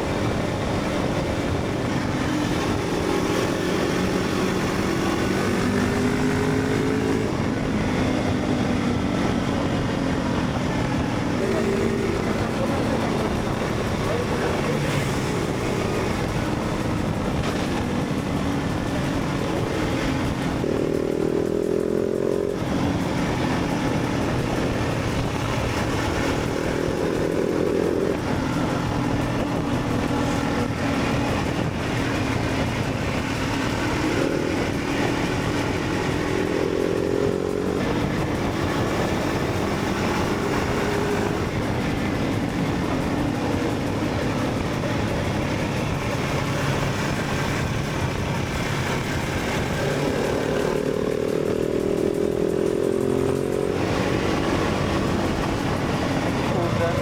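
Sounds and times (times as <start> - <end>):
motorcycle engine accelerating: 0.0 - 57.0
wind noise: 0.0 - 57.0.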